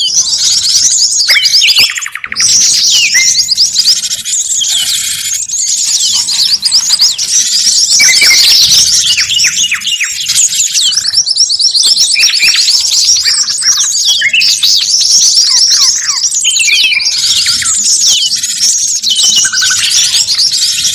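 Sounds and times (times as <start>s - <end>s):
chorus of songbirds chirping: 0.0s - 20.9s.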